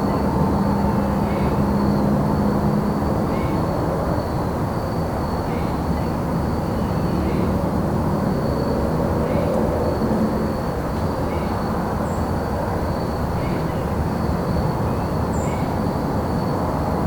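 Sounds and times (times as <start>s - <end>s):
distant vehicles rumbling: 0.0s - 14.9s
crickets trilling: 0.0s - 16.6s.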